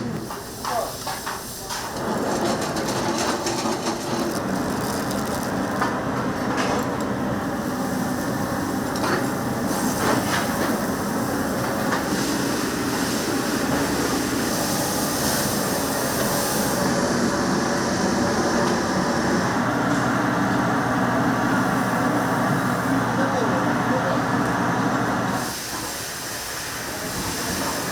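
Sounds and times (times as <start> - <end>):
gas burner flame roaring: 0.0 - 27.9.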